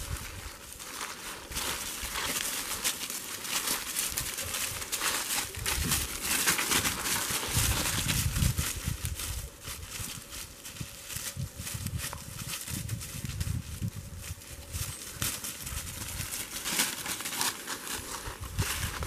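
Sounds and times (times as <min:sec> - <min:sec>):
dry leaves crackling under paws: 0:00.0 - 0:19.0.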